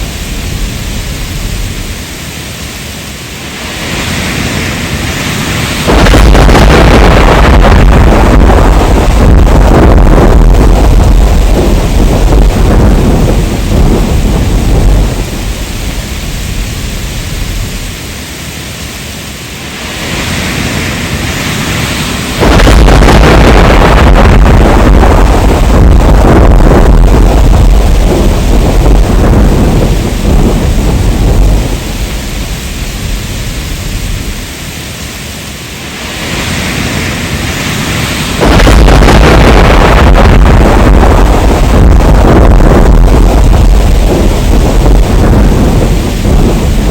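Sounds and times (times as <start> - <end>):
heavy rain: 0.0 - 46.9
thunder rumbling: 0.0 - 46.9.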